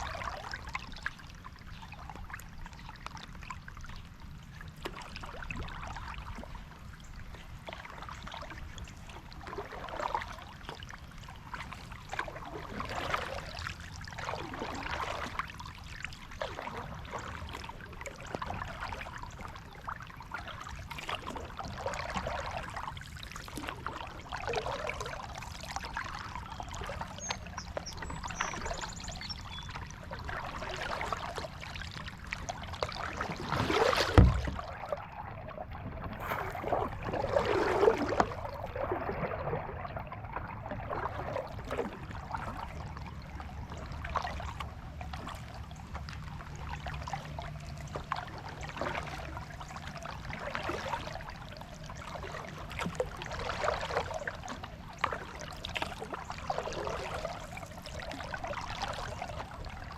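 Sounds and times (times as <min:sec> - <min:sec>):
paddle strokes swishing through water: 0:00.0 - 0:59.9
water trickling off paddle: 0:00.0 - 0:59.9.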